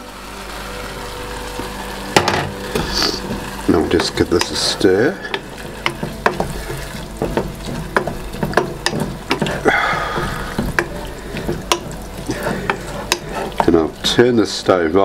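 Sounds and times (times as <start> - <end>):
steady sizzle: 0.0 - 15.0
wooden spoon scraping a saucepan: 2.4 - 14.8.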